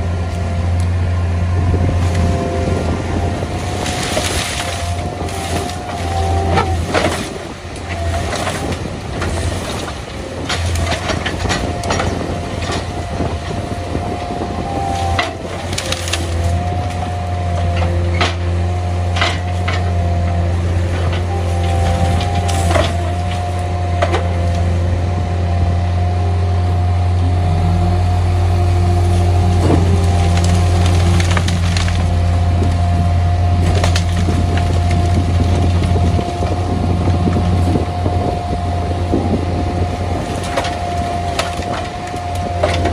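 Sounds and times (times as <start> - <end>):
diesel engines droning: 0.0 - 42.9
branches cracking and snapping: 1.9 - 24.9, 28.0 - 42.9.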